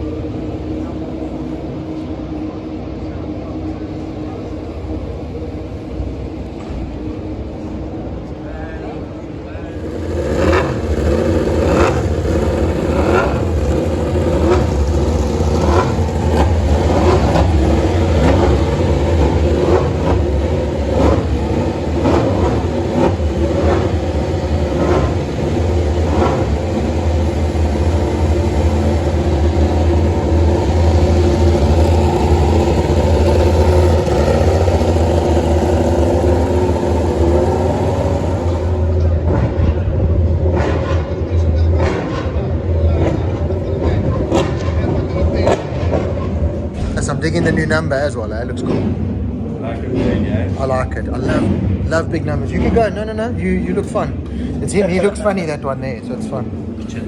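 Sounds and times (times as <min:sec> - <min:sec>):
loud steady low hum: 0:00.0 - 0:57.0
vehicle engine pitch sliding: 0:09.4 - 0:57.0.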